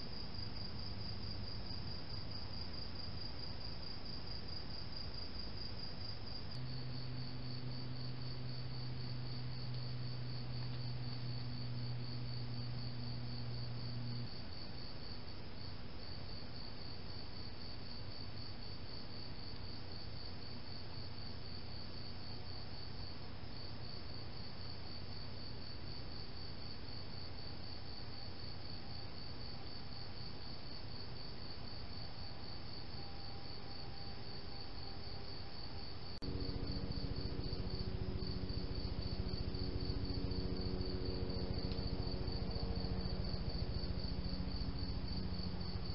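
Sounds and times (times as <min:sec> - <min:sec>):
crickets chirping: 0:00.0 - 0:45.9
low steady hum: 0:00.0 - 0:45.9.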